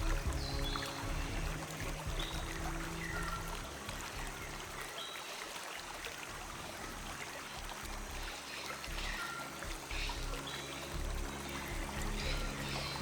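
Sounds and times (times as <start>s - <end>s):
stream running water: 0.0s - 13.0s.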